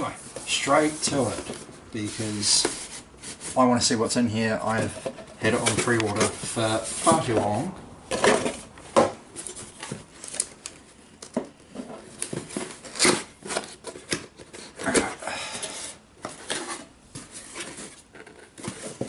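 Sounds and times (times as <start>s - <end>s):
cardboard packaging rustling: 0.0s - 19.0s.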